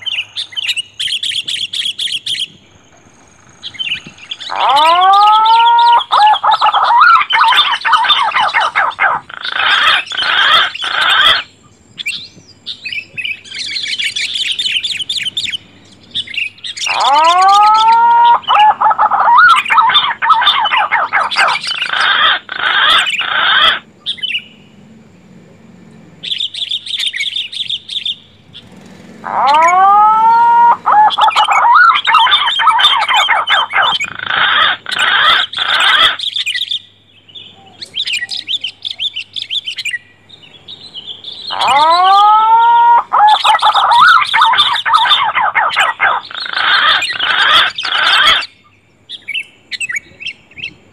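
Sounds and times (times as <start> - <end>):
bird chattering: 0.0 - 24.4, 26.2 - 50.8
rising whistled bird calls: 0.0 - 24.8, 26.2 - 50.8
rapid dense bird chirping: 0.0 - 24.9, 26.2 - 50.9.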